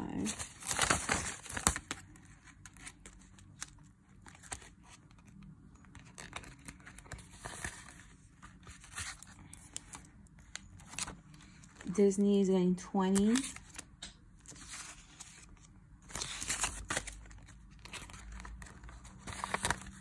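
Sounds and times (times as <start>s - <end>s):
plastic envelopes handled: 0.0s - 11.9s, 13.1s - 20.0s
paper banknotes rustling: 0.1s - 11.9s, 13.1s - 20.0s.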